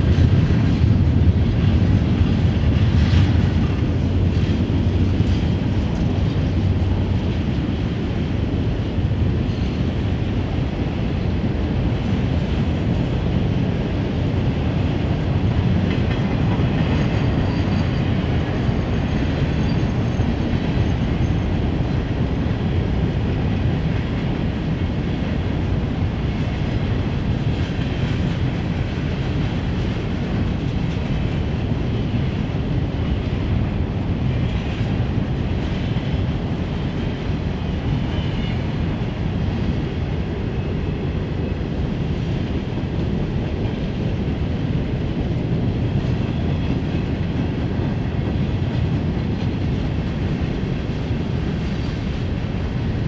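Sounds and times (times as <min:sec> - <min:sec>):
freight train wheels rolling: 0:00.0 - 0:53.0.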